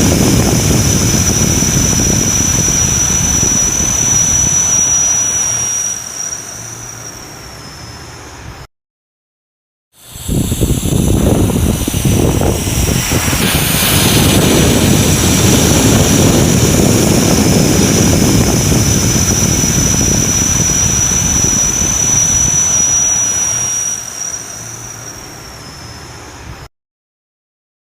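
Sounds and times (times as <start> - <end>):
jet engines roaring: 0.0 - 8.6, 10.0 - 26.6.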